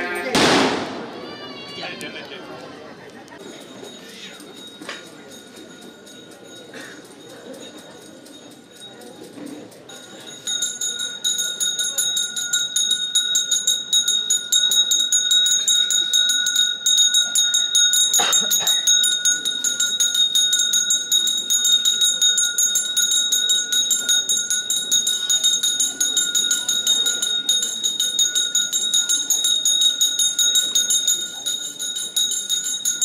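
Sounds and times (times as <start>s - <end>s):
metal bells ringing rapidly: 3.4s - 33.0s.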